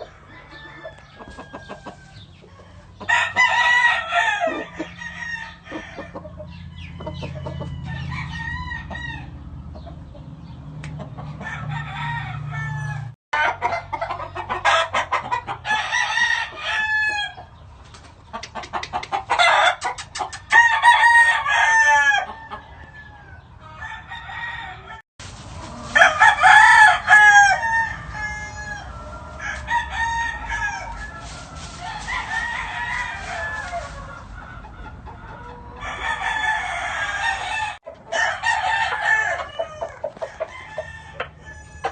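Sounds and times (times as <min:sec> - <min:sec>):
roosters crowing and clucking: 0:00.0 - 0:41.9.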